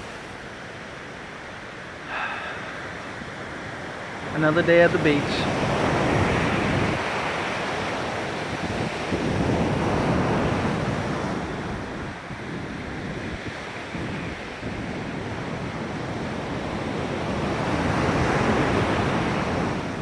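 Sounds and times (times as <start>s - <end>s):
ocean surf breaking: 0.0s - 20.0s
wind rumbling on microphone: 0.0s - 20.0s.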